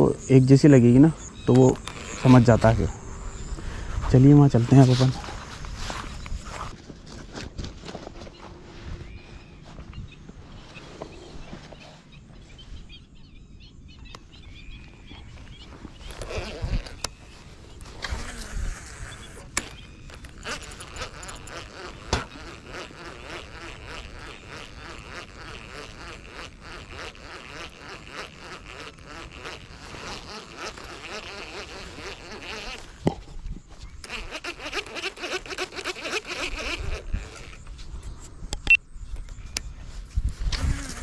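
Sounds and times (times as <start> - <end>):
insects buzzing: 0.0 - 41.0.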